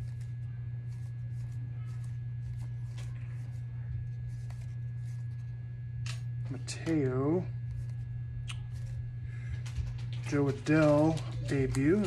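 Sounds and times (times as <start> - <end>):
cards flicking and rustling: 0.0 - 12.0
steady low hum: 0.0 - 12.0.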